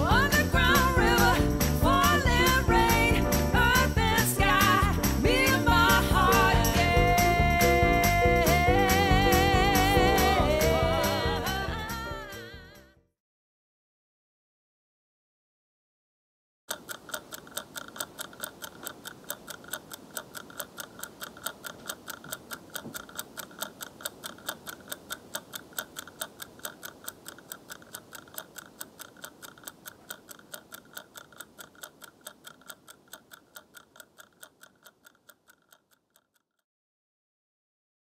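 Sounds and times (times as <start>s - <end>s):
kitchen timer ticking: 0.0s - 12.5s, 16.7s - 36.6s.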